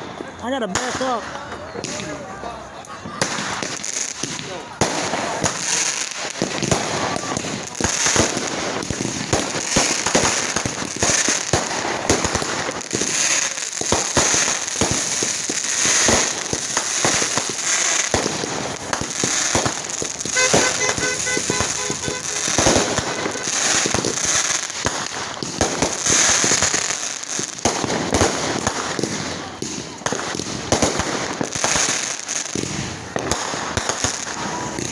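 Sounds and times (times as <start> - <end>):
fireworks crackling and bangs: 0.0 - 34.9.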